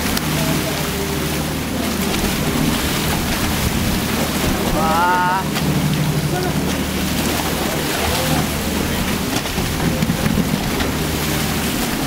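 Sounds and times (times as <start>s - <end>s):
boat machinery hum: 0.0s - 12.0s
water splashing and churning: 0.0s - 12.0s.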